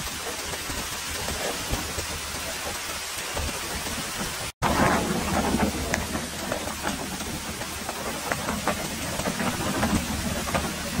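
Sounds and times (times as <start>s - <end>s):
heavy rain hissing: 0.0s - 11.0s
raindrops ticking: 0.0s - 11.0s
wind buffeting microphone: 0.0s - 11.0s.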